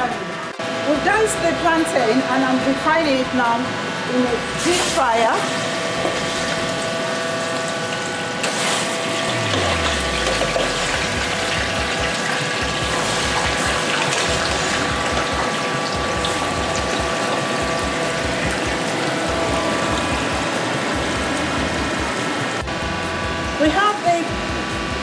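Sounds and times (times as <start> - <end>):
steady hum: 0.0 - 25.0
crackling sizzle of hot oil: 3.6 - 25.0.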